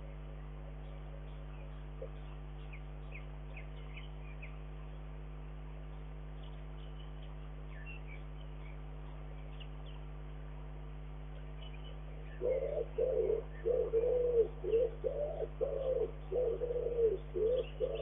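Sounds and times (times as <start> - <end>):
low hum and hiss: 0.0 - 18.0
songbirds chirping: 0.0 - 18.0.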